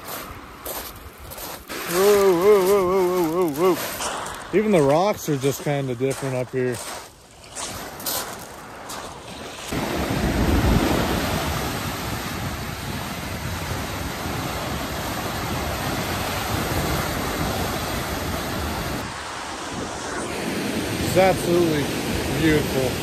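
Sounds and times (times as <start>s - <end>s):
waves washing against rocks: 0.0s - 23.0s
wind buffeting microphone: 0.0s - 23.0s.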